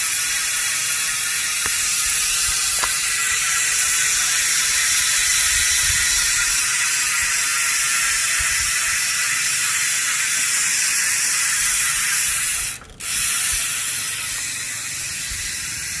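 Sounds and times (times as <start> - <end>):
bicycle freehub ratchet buzzing: 0.0 - 16.0.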